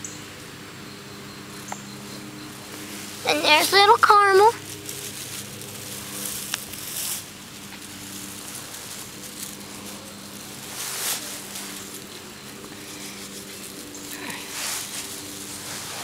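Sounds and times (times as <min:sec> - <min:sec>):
steady low hum: 0:00.0 - 0:16.0
grass rustling: 0:00.4 - 0:16.0.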